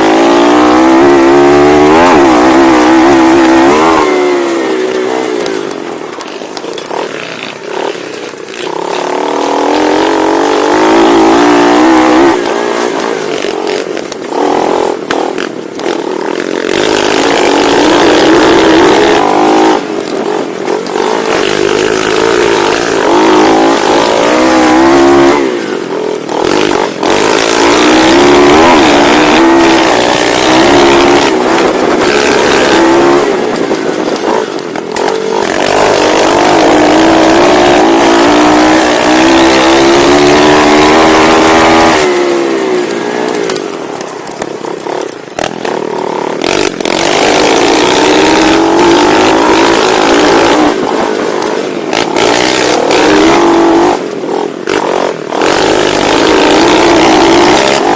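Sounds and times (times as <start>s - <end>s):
motorbike engine revving: 0.0s - 57.9s.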